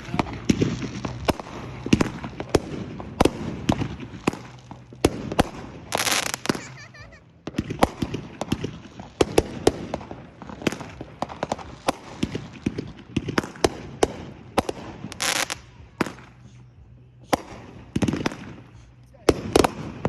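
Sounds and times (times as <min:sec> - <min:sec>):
firework hiss: 0:00.0 - 0:20.0
fireworks bangs and pops: 0:00.0 - 0:20.0.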